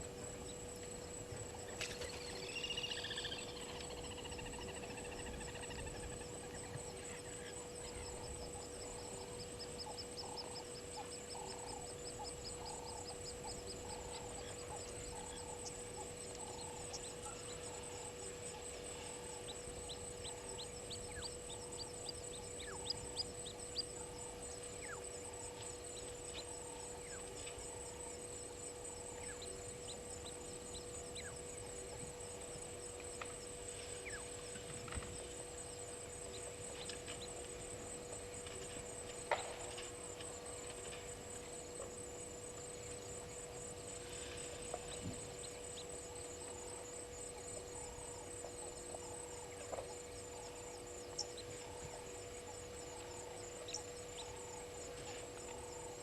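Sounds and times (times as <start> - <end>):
constant low hum: 0.0 - 56.0
insect trill: 0.0 - 56.0.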